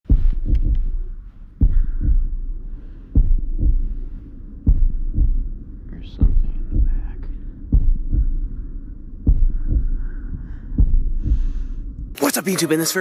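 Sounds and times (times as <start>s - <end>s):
deep heartbeat thuds: 0.0s - 12.2s.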